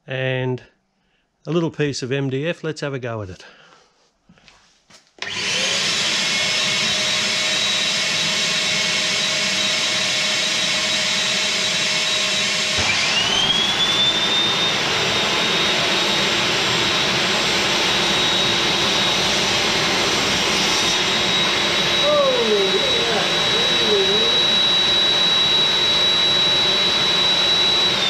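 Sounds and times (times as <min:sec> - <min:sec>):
shop vacuum running: 0:05.2 - 0:28.0
table saw motor whine: 0:05.2 - 0:28.0.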